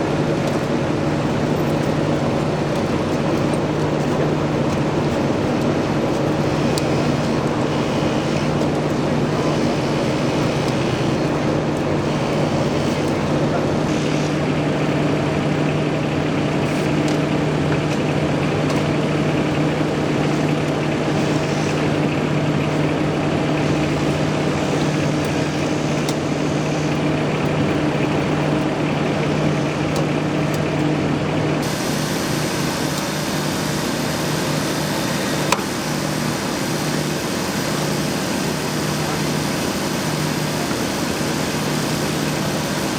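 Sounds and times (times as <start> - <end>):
large vehicle engine idling: 0.0 - 42.9
road noise: 0.0 - 42.9.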